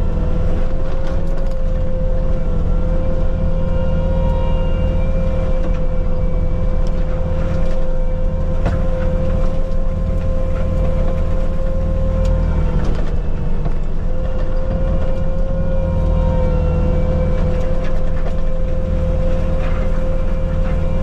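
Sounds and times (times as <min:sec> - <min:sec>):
mulcher high whine: 0:00.0 - 0:21.0
skid steer engine rumble: 0:00.0 - 0:21.0.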